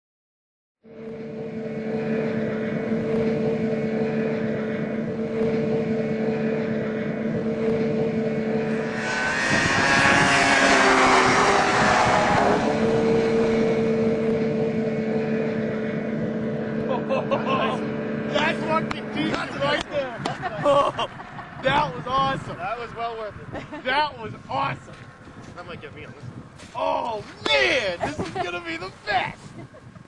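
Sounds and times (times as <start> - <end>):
snowmobile engine droning: 0.8 - 30.0.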